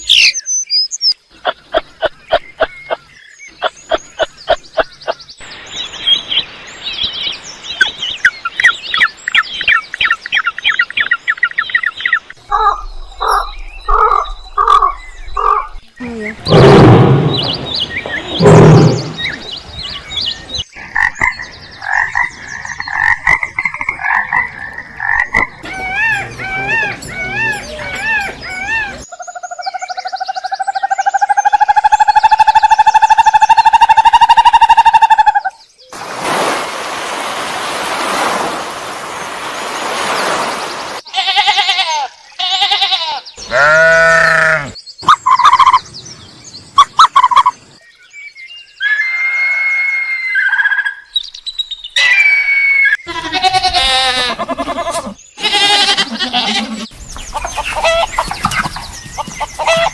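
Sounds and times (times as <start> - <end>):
animal chirping and croaking calls: 0.0 - 5.2, 8.6 - 19.6, 20.8 - 35.6, 41.2 - 46.0, 46.8 - 47.8, 48.7 - 59.9.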